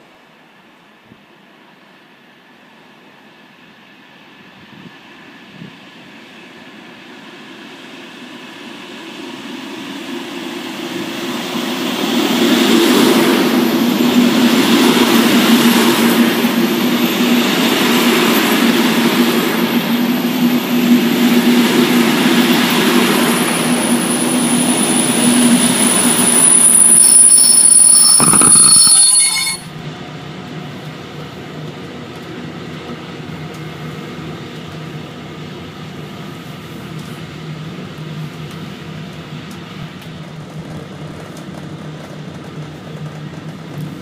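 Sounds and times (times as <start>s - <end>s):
diesel locomotive engine droning: 0.0s - 44.0s
train wheels rumbling: 3.4s - 44.0s.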